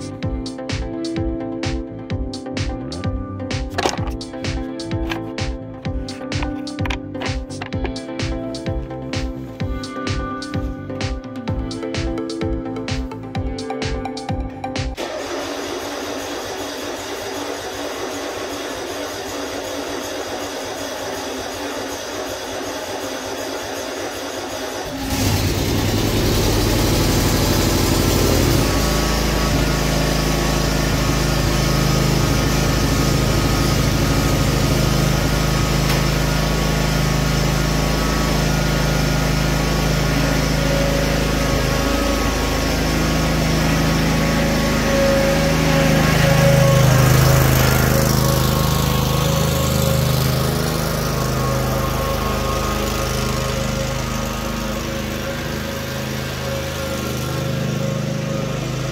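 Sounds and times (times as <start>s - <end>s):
riding mower engine running: 0.0s - 58.9s.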